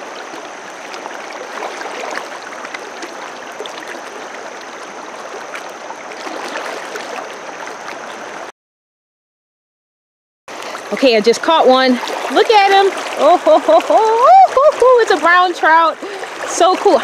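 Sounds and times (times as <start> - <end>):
river water rushing over rocks: 0.0 - 8.5, 10.5 - 17.0.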